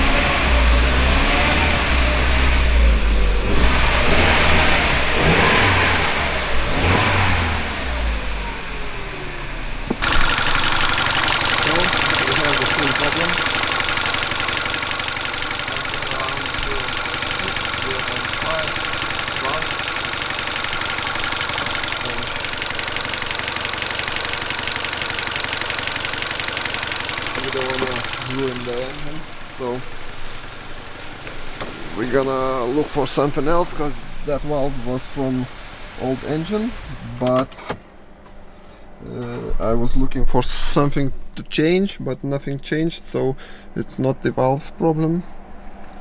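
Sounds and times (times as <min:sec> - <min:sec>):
car engine revving: 0:00.0 - 0:41.3.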